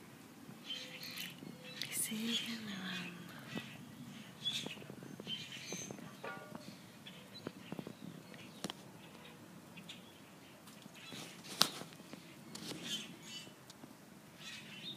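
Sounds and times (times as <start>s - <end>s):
birds calling and chirping: 0.6s - 13.6s, 14.3s - 14.9s.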